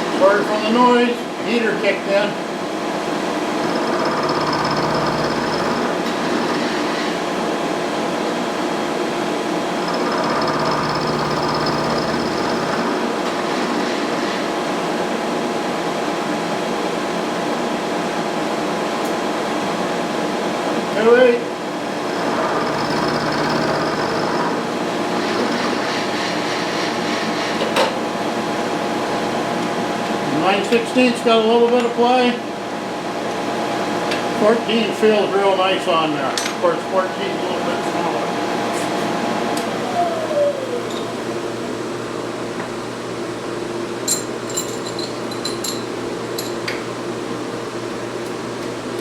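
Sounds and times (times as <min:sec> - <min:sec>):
heater blower rushing: 0:00.0 - 0:31.5, 0:32.2 - 0:44.4.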